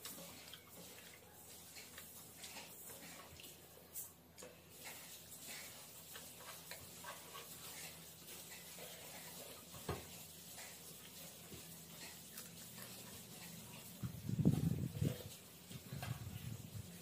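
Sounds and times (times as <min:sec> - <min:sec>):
fingers mixing rice and curry: 0:00.0 - 0:17.0.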